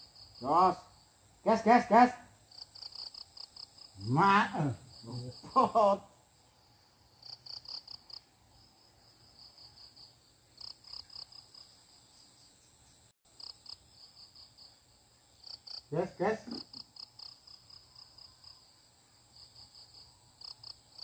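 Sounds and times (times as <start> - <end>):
insect chirping: 0.0 - 21.0.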